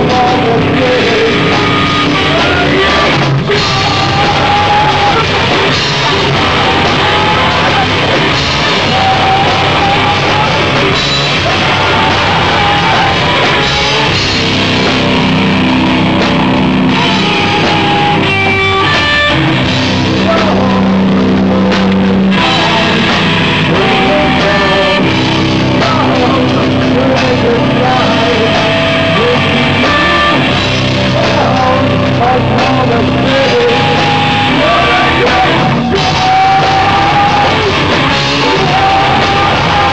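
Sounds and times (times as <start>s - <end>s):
person singing: 0.0s - 15.5s, 16.9s - 39.9s
bass guitar: 0.0s - 39.9s
drum kit: 0.0s - 39.9s
electric guitar: 0.0s - 39.9s.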